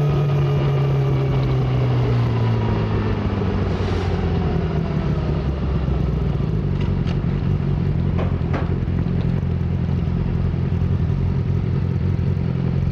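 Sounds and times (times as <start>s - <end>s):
motorcycle engine running low: 0.0s - 12.9s.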